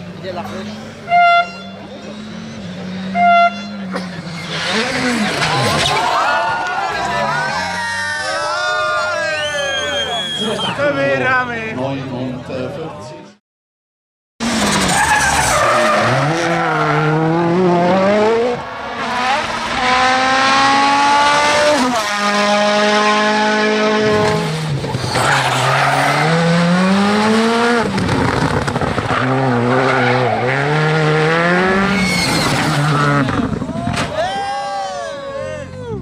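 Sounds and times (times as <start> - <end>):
rally car engines at full throttle: 0.0 - 12.8, 14.4 - 36.0.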